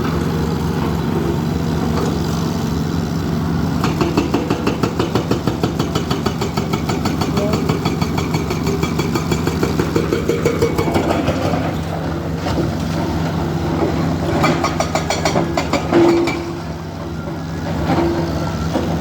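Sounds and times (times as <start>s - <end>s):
diesel machinery engine clattering: 0.0s - 19.0s.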